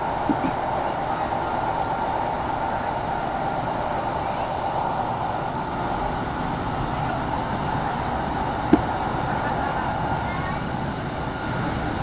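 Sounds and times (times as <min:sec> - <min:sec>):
train rumbling from inside carriage: 0:00.0 - 0:12.0.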